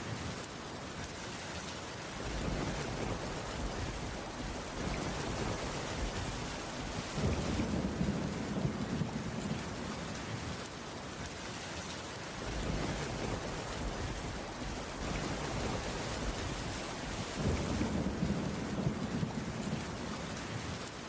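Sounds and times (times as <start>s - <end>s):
rain on a wooden roof: 0.0s - 21.0s.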